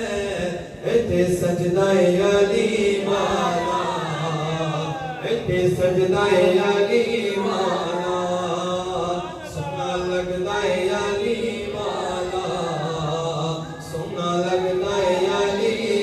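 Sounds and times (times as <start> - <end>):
unaccompanied devotional chanting: 0.0 - 16.0.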